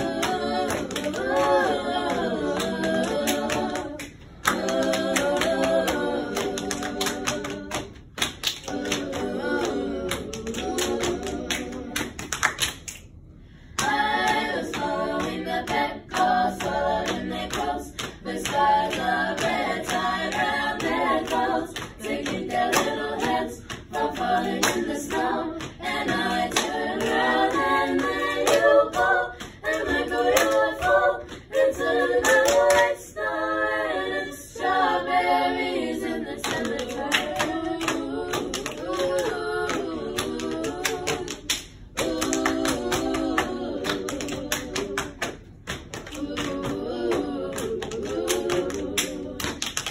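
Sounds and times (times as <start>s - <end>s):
group singing in harmony: 0.0s - 12.6s, 13.6s - 49.9s.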